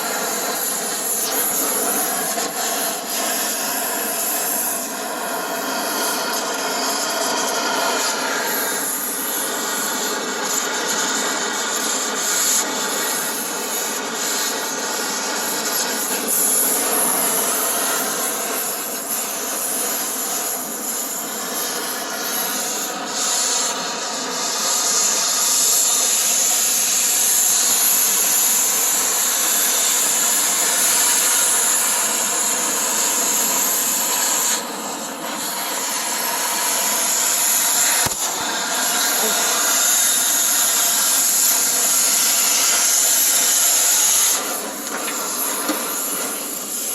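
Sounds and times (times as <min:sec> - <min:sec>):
power tool grinding metal: 0:00.0 - 0:46.9.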